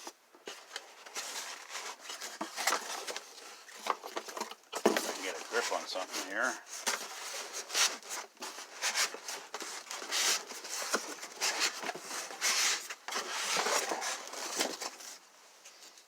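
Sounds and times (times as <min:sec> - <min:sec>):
packaging rustling and crinkling: 0:00.0 - 0:15.2.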